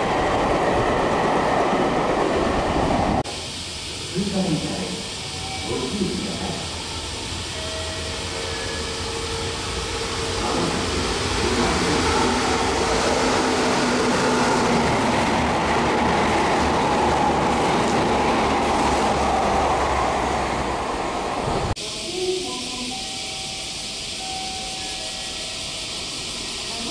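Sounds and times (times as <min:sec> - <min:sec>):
electric train passing at speed: 0:00.0 - 0:26.9.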